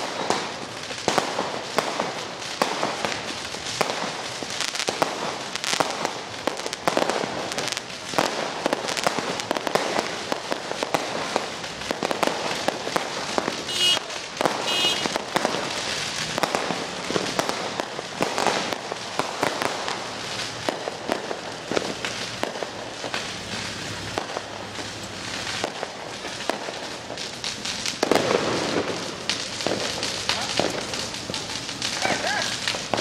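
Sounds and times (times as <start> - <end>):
fireworks popping and banging: 0.0 - 33.0.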